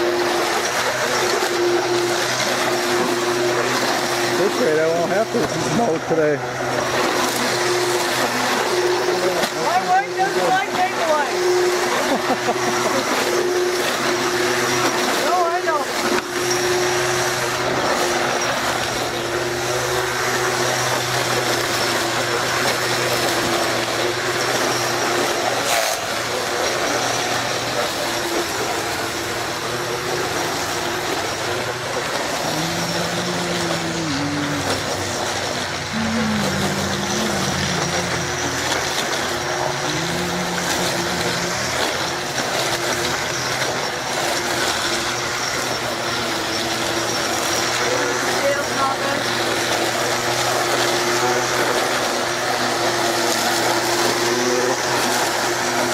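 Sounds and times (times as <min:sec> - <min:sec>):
electric string trimmer whining: 0:00.0 - 0:55.9.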